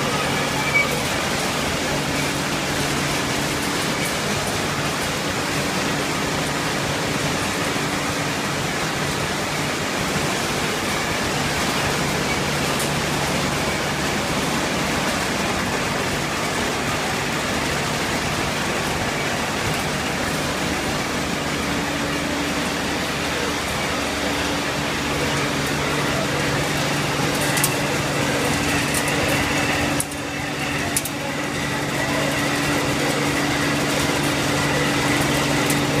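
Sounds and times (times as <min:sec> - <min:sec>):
continuous machinery hiss: 0:00.0 - 0:36.0.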